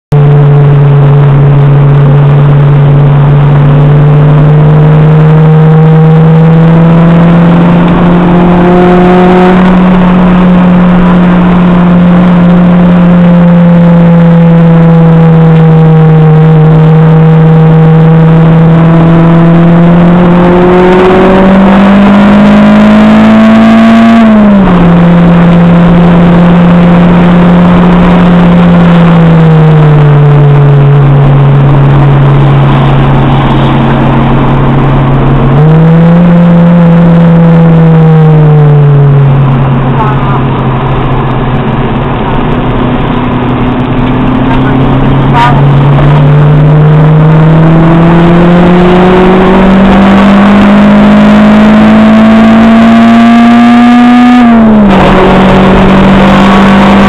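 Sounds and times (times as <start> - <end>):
car engine revving in cabin: 0.1 - 57.0.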